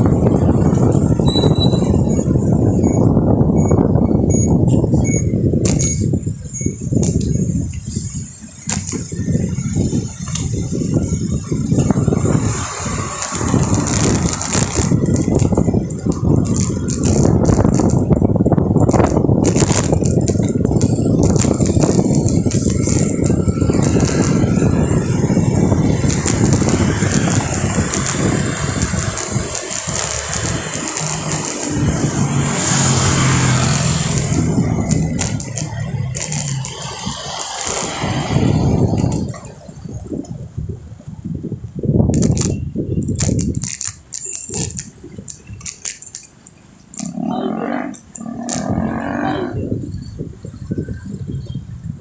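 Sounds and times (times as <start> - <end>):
sharp clicks and rattles: 0.0 - 40.6, 41.4 - 51.0
steady engine hum: 0.0 - 42.1
road traffic: 0.0 - 52.0
wind buffeting microphone: 0.0 - 52.0.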